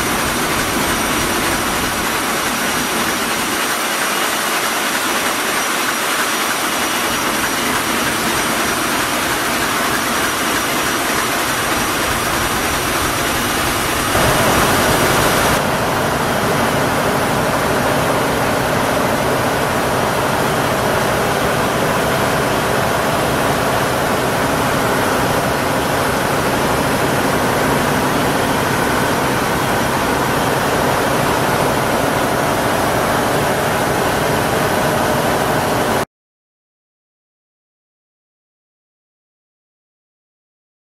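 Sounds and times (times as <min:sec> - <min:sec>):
ship diesel engine running: 0:00.0 - 0:36.0.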